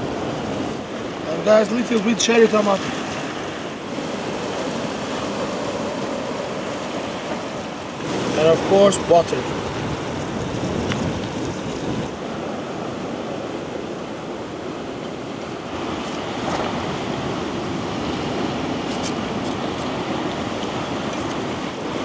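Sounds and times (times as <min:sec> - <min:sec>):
sea waves washing on shore: 0:00.0 - 0:22.0
wind: 0:00.0 - 0:22.0.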